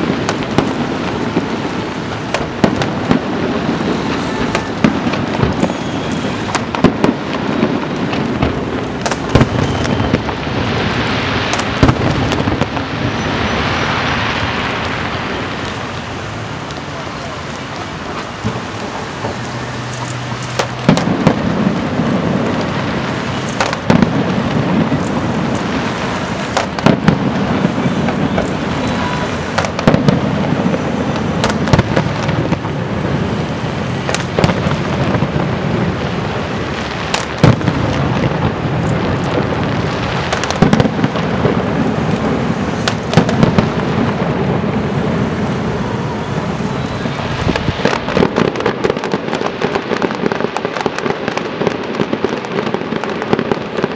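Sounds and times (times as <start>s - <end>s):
firework shells bursting with bangs: 0.0s - 53.9s
fireworks crackling: 0.0s - 53.9s.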